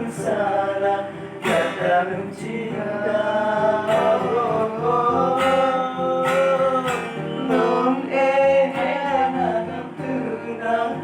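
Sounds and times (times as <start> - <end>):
instrumental accompaniment: 0.0 - 11.0.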